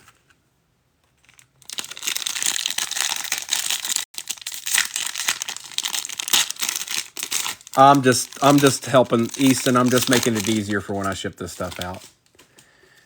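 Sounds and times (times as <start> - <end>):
plastic packaging crinkling: 1.2 - 12.4.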